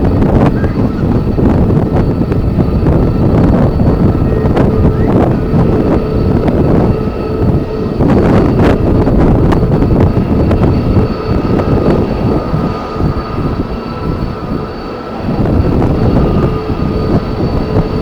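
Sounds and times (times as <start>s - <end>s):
jet engines whining: 0.0s - 18.0s
wind buffeting microphone: 0.0s - 18.0s.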